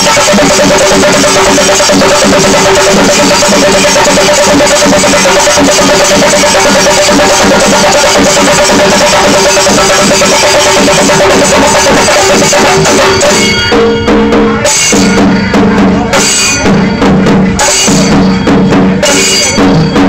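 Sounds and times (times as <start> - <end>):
drums beaten with sticks: 0.0 - 20.0
hand cymbals: 0.0 - 20.0.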